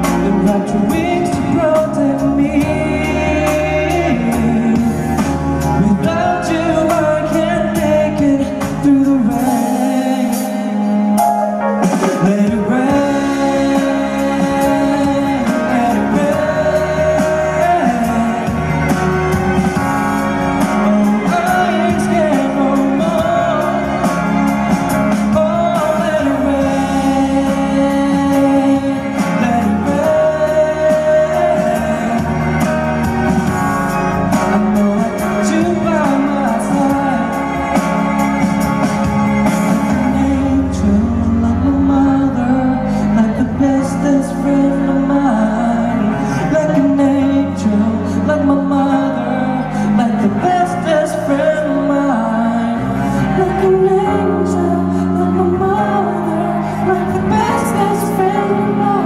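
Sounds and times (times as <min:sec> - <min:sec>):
live pop singing over backing track: 0:00.0 - 0:59.0.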